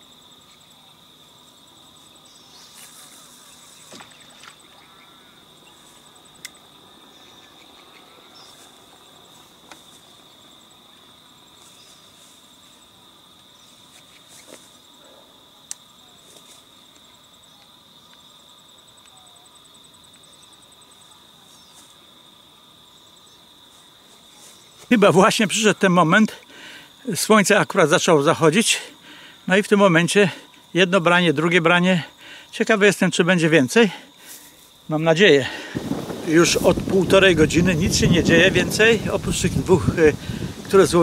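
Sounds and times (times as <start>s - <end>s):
high-pitched insect trill: 0.0s - 41.0s.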